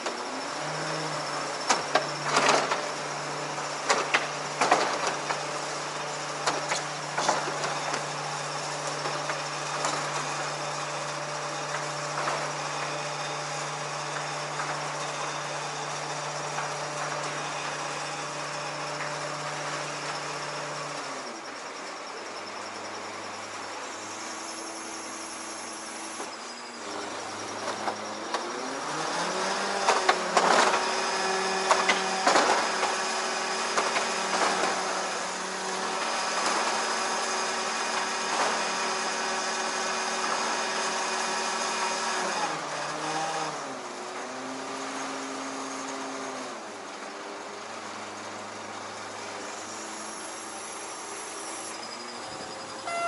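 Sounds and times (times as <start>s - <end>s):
ladder lift mechanical hum: 0.0s - 42.9s, 45.0s - 53.0s.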